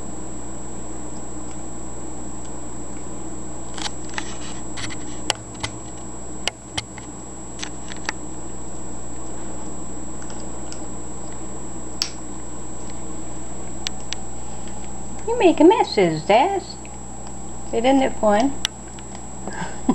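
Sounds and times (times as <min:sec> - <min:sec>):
steady background hum: 0:00.0 - 0:19.9.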